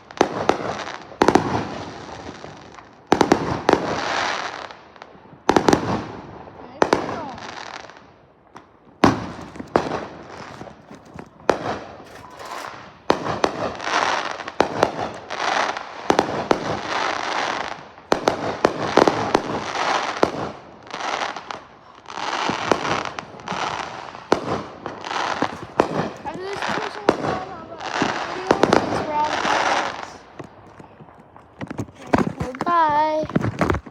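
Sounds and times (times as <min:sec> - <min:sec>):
fireworks crackling hiss: 0:00.0 - 0:08.1, 0:09.0 - 0:33.3
fireworks bangs and cracks: 0:00.0 - 0:33.9.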